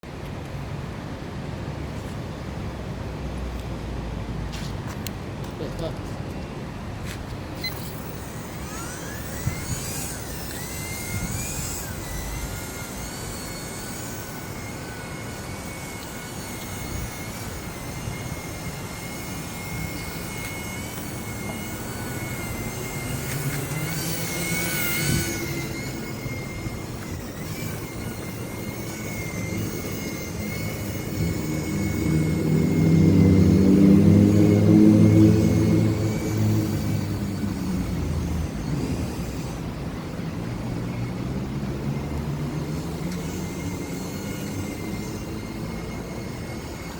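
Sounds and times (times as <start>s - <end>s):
electric model aircraft motor whining: 7.2s - 46.9s.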